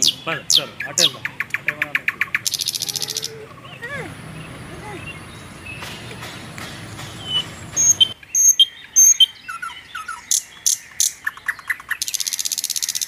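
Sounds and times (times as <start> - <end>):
bird trill: 0.0 - 13.0
outdoor background hiss: 0.0 - 13.0
small birds chirping: 0.0 - 13.0.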